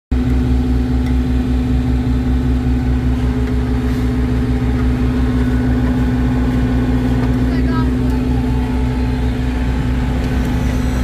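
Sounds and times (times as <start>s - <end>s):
diesel engine running steadily: 0.1s - 11.0s.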